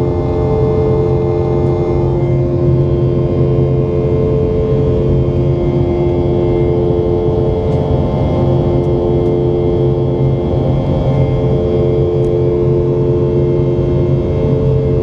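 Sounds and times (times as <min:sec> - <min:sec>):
jet engines humming in cabin: 0:00.0 - 0:15.0.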